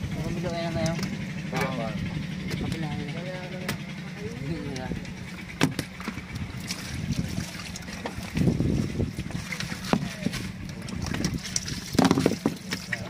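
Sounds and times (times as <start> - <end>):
low boat engine hum: 0.0 - 13.0.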